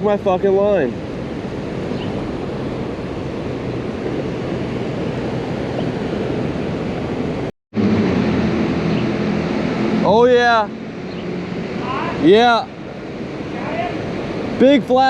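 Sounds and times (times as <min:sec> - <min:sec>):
water rushing over a dam: 0:00.0 - 0:15.0
low hum: 0:00.8 - 0:14.6.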